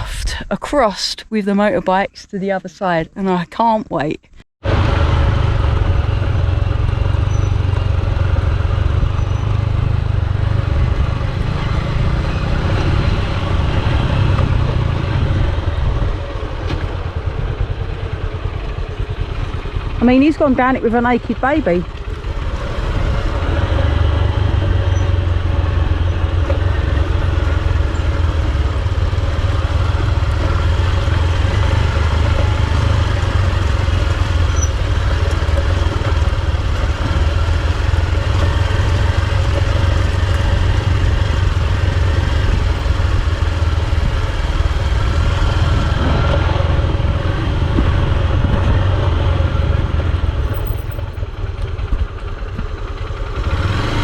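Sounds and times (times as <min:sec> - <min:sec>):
motorcycle engine running: 0:04.6 - 0:54.0.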